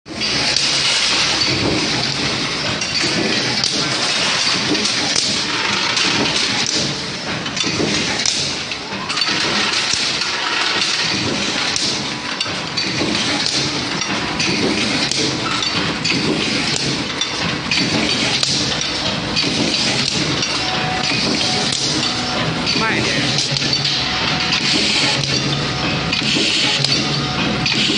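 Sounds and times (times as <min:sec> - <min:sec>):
continuous machinery din: 0:00.1 - 0:27.9
metal clanks and thuds: 0:00.1 - 0:27.9.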